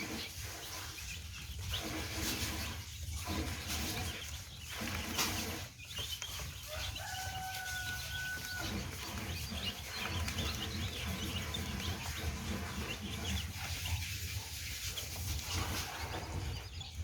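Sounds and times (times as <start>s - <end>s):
chicks peeping: 0.0s - 17.0s
long steady chick call: 0.0s - 17.0s.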